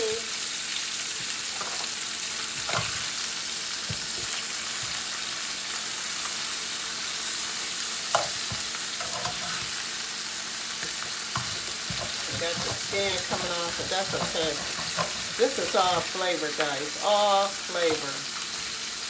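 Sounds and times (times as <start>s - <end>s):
chicken sizzling in a pot: 0.0s - 19.0s.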